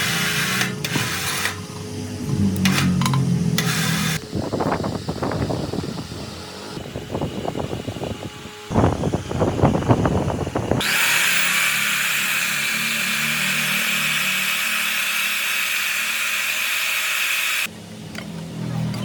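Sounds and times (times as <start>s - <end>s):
power tool whining: 0.0s - 17.7s.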